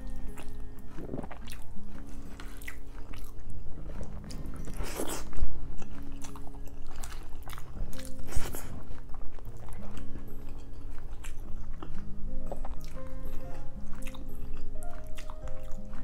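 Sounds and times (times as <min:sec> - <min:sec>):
wet chewing: 0:00.0 - 0:16.0.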